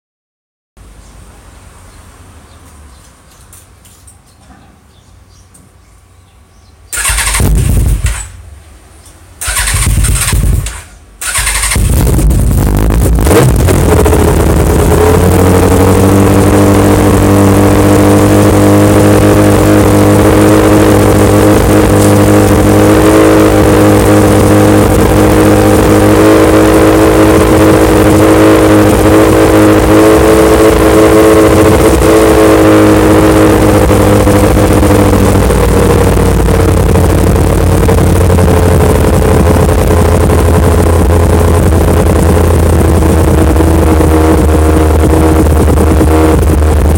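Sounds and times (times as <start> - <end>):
motorcycle engine starting and idling: 6.9 - 46.9.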